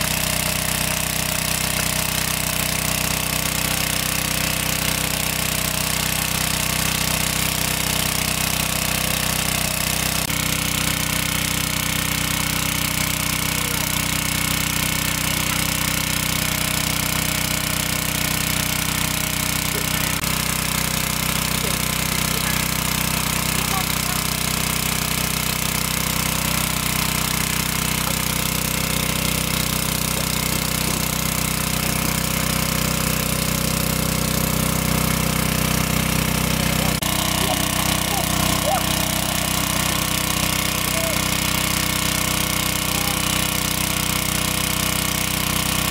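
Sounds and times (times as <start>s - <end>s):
water jet hissing and splashing: 0.0s - 45.9s
water pump engine running: 0.0s - 45.9s.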